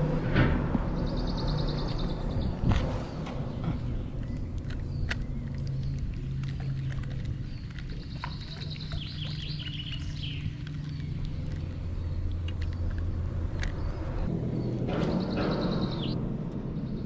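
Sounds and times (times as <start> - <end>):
low engine drone: 0.0 - 17.0
bird trilling call: 1.0 - 16.2.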